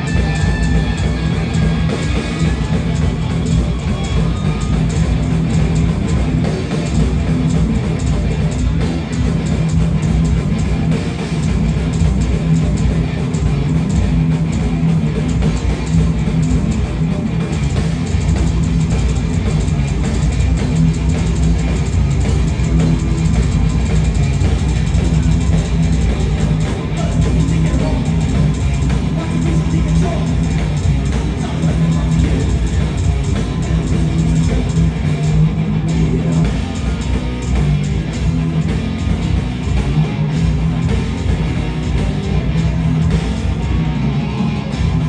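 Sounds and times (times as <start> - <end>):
drum kit: 0.0 - 45.0
electric guitar: 0.0 - 45.0
heavy metal band playing: 0.0 - 45.0.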